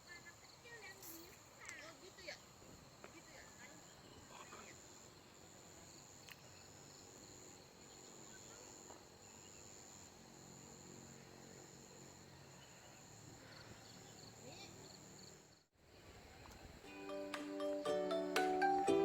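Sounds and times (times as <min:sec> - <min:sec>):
insects chirping: 0:00.0 - 0:17.2.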